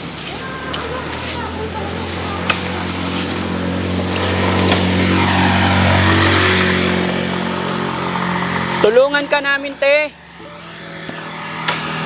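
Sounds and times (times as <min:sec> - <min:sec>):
motorcycle passing: 0:00.0 - 0:12.0
steady low engine hum: 0:00.0 - 0:12.0.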